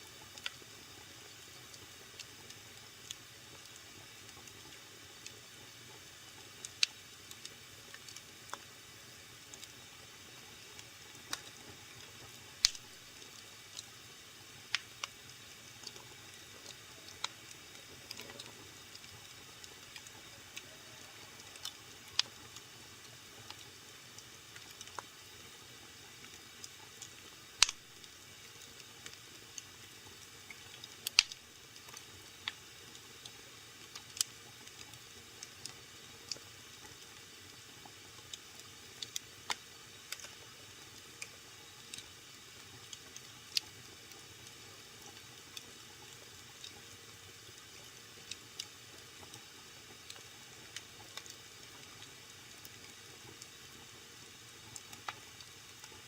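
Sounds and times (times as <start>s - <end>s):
wood fire crackling and popping: 0.2s - 14.0s, 14.6s - 56.0s.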